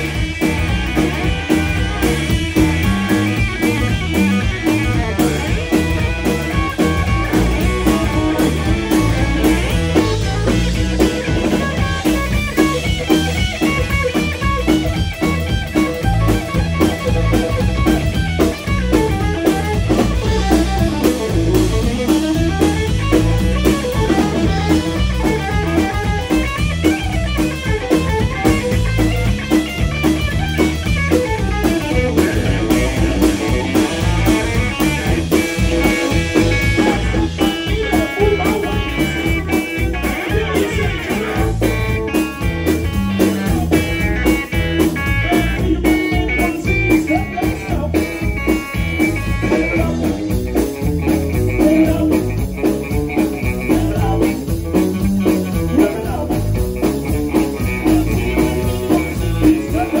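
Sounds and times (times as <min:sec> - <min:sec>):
drum kit beat: 0:00.0 - 1:00.0
electric bass: 0:00.0 - 1:00.0
electric guitar: 0:00.0 - 1:00.0.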